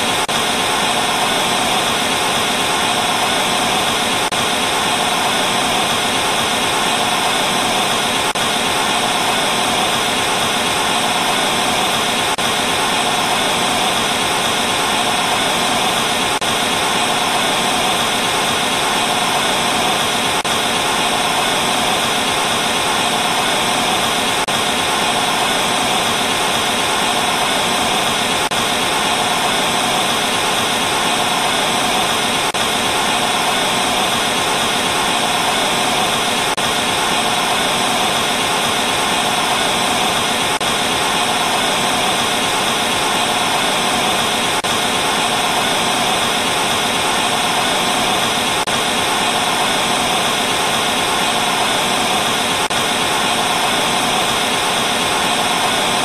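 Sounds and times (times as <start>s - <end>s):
tv static hiss: 0.0s - 56.0s.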